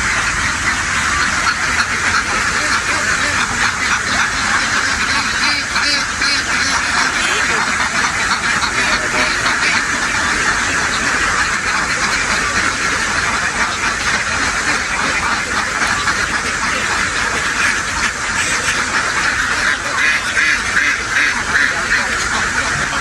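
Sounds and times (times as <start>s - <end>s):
flock of ducks quacking: 0.0s - 23.0s.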